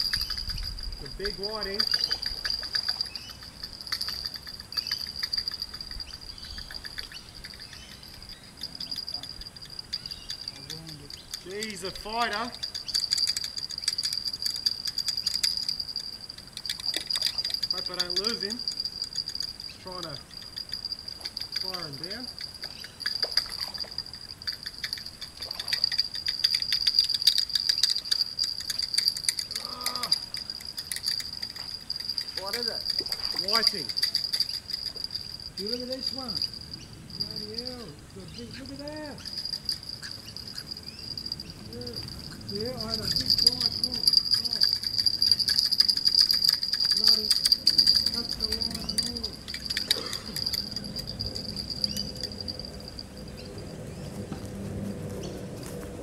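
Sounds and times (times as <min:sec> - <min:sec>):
fishing reel clicking: 0:00.0 - 0:37.9, 0:38.6 - 0:53.1
insects shrilling: 0:00.0 - 0:54.1.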